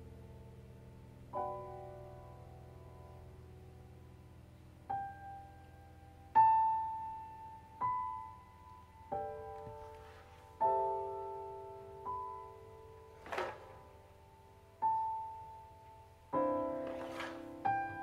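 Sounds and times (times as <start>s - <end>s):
slow grand piano notes: 0.0s - 18.0s.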